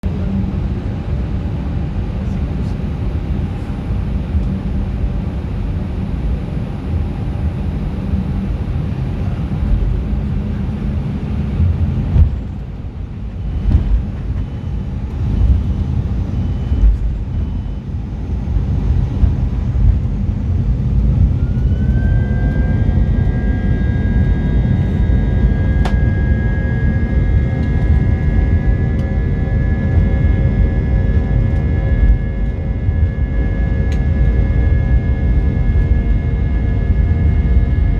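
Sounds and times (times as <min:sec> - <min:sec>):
aircraft cabin rumble: 0:00.0 - 0:37.9
jet engines whining: 0:00.1 - 0:37.9.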